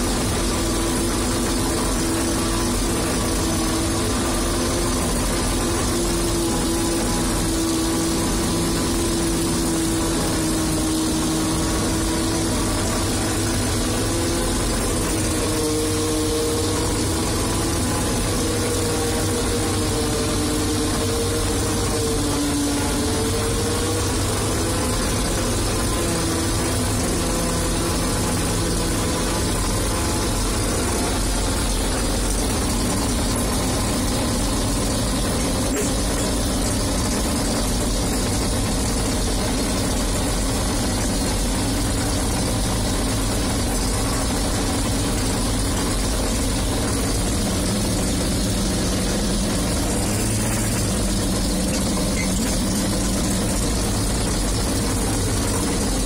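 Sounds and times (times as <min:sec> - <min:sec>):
forage harvester diesel drone: 0:00.0 - 0:56.0.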